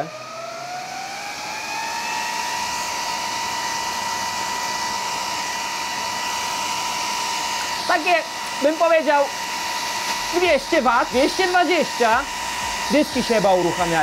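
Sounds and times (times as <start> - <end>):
fan whine and air rush: 0.0 - 14.0.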